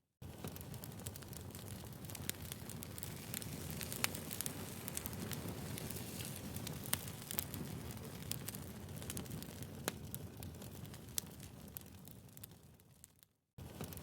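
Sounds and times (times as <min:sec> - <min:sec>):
wood fire crackling and popping: 0:00.2 - 0:14.0.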